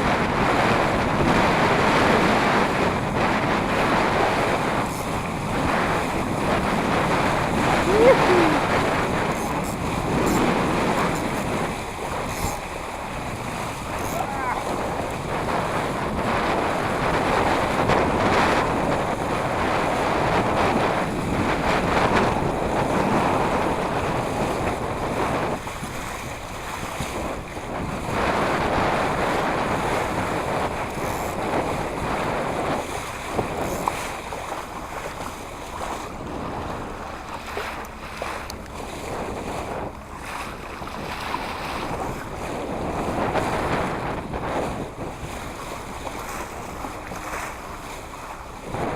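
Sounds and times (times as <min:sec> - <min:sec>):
water splashing along hull: 0:00.0 - 0:48.9
wind buffeting microphone: 0:00.0 - 0:48.9.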